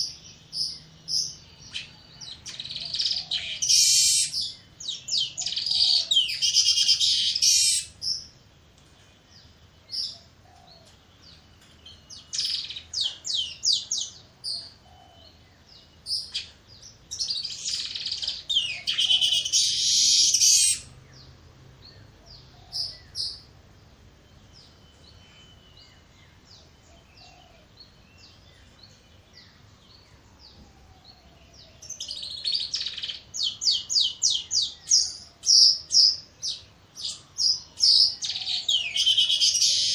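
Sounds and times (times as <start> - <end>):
weaverbirds chattering: 0.0 - 39.9.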